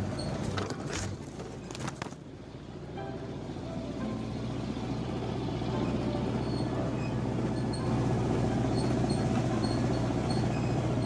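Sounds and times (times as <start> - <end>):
motor vehicle running: 0.0 - 11.0.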